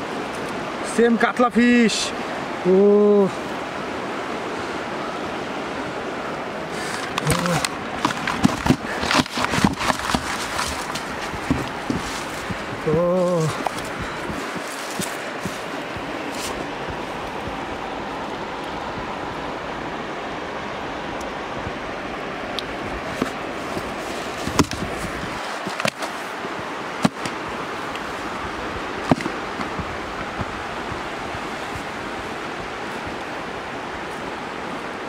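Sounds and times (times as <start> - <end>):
river water rushing: 0.0 - 35.0
wind: 0.0 - 35.0.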